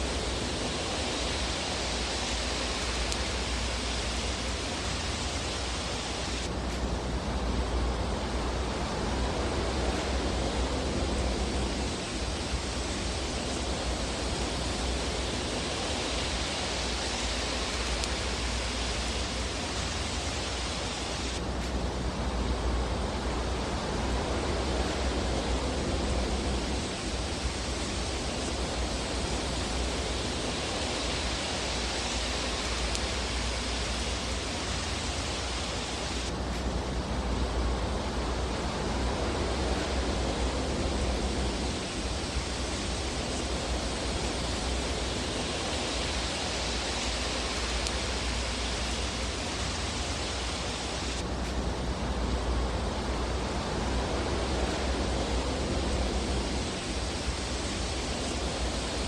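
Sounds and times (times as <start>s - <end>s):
fire burning in fireplace: 0.0s - 59.0s.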